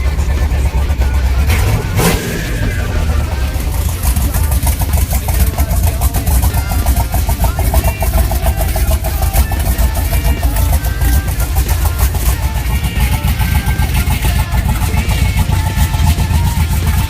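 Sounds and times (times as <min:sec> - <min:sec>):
car engine idling choppily: 0:00.0 - 0:17.0.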